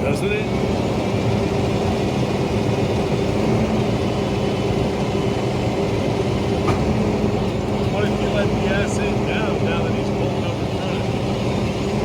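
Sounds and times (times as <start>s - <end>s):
road noise: 0.0s - 12.0s
vehicle engine drone: 0.0s - 12.0s.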